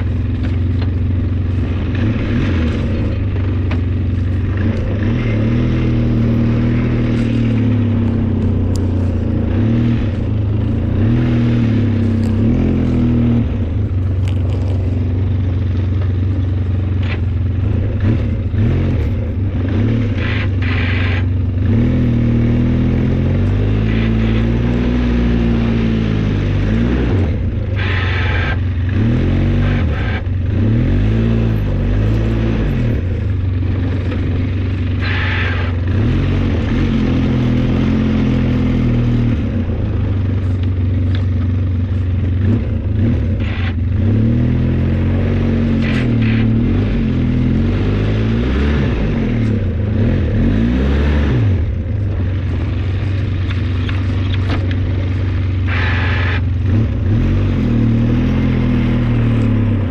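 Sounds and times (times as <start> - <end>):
vehicle engine revving under load: 0.0 - 59.9.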